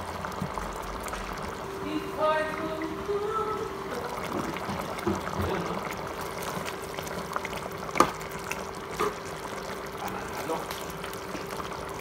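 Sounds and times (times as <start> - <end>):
sauce simmering in a pan: 0.0 - 12.0
steady hum: 0.0 - 12.0.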